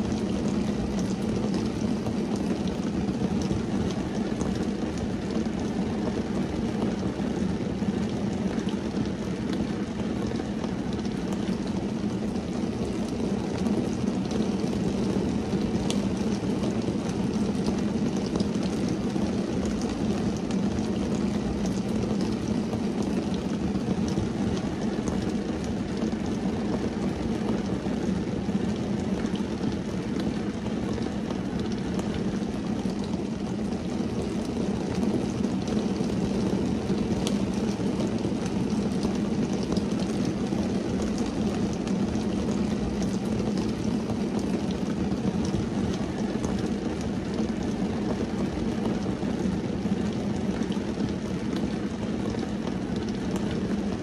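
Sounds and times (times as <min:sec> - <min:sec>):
rain on a car: 0:00.0 - 0:54.0.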